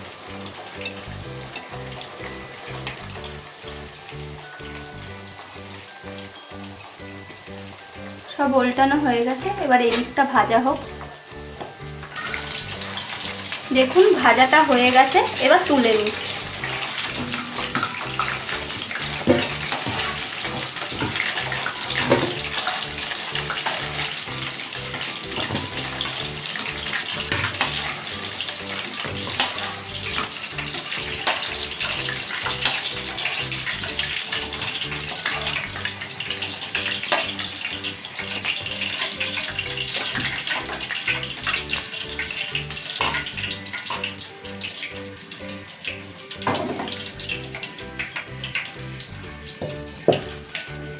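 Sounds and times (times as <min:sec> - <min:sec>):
chicken sizzling in hot oil: 0:00.0 - 0:50.9.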